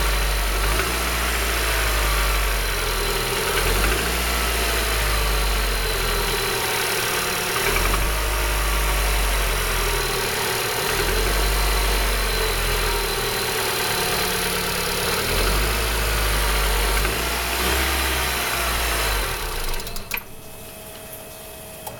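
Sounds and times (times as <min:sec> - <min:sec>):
knocking car engine running: 0:00.0 - 0:21.0.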